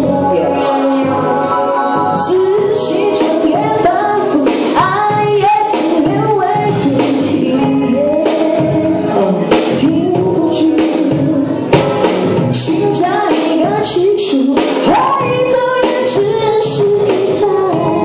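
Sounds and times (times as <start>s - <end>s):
backing music with steady beat: 0.0s - 18.0s
woman singing pop song: 0.0s - 18.0s.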